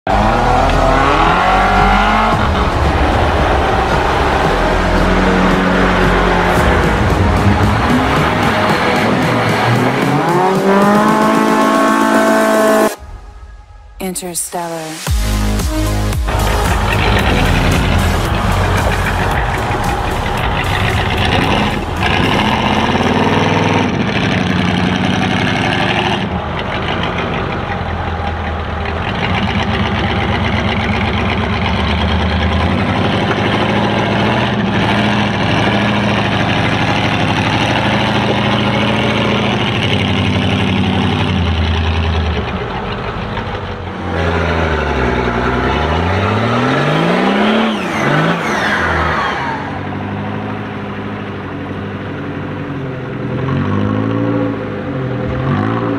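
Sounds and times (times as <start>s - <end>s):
off-road vehicle engine revving: 0.1s - 13.0s, 15.2s - 55.9s.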